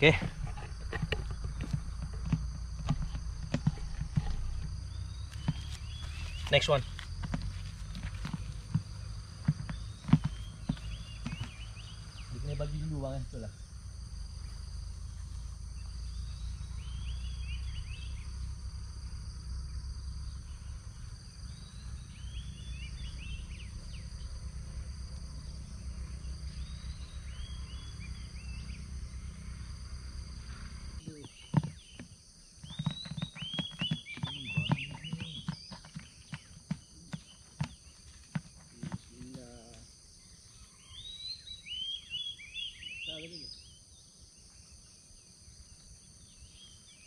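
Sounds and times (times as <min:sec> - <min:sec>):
birds chirping: 0:00.0 - 0:47.0
high insect drone: 0:00.0 - 0:47.0.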